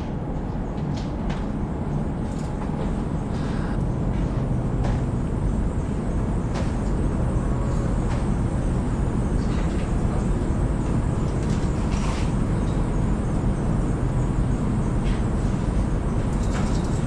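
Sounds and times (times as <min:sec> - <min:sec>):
machine rumbling: 0:00.0 - 0:17.0.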